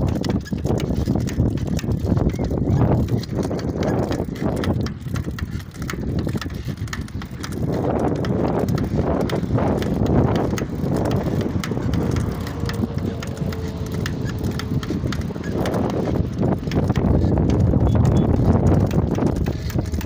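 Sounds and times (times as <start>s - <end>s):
bicycle clicks and rattles: 0.0s - 20.0s
wind rushing over microphone: 0.0s - 20.0s.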